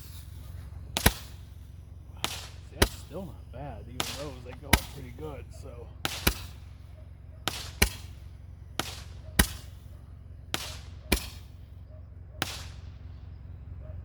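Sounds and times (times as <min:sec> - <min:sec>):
fireworks hiss: 0:00.0 - 0:11.7
fireworks popping and banging: 0:00.0 - 0:11.8, 0:12.4 - 0:13.1.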